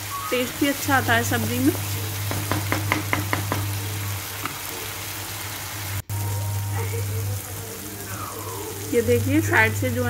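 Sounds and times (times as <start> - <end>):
paste sizzling in oil: 0.0 - 10.0.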